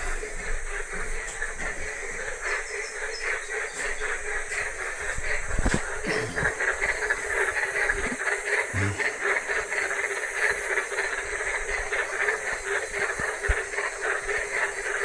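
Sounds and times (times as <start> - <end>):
frogs chorus: 0.0 - 15.0.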